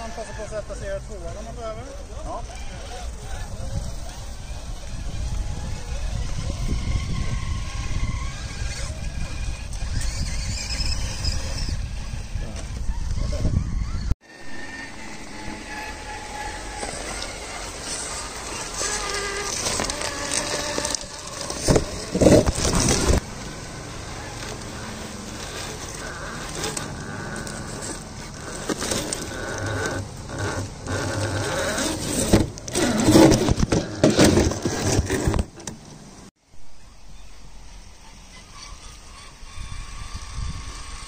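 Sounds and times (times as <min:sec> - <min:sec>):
toy car electric motor whining: 0:00.0 - 0:23.2, 0:23.8 - 0:35.5, 0:37.2 - 0:41.0.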